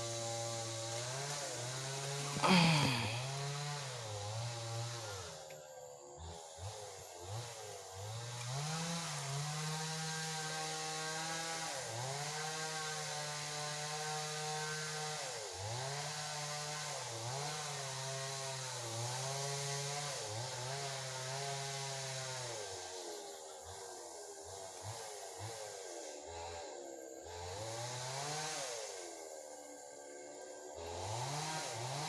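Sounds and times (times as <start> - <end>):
small high-revving engine: 0.0 - 32.0.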